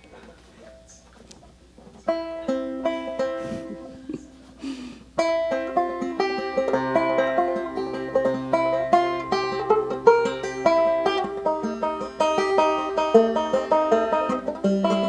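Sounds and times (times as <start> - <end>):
plucked string instrument picking: 1.8 - 4.6, 5.2 - 15.0.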